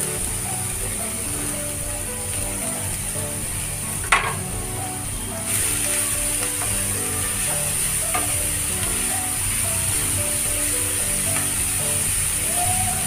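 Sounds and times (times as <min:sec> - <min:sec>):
cabbage sizzling in hot oil: 0:00.0 - 0:13.0.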